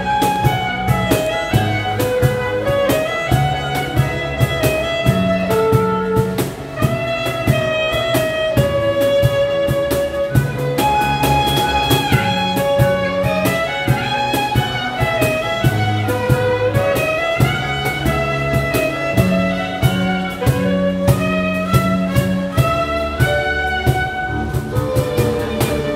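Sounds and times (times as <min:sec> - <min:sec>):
bass: 0:00.0 - 0:25.9
bowed string melody: 0:00.0 - 0:25.9
steady beat: 0:00.0 - 0:25.9.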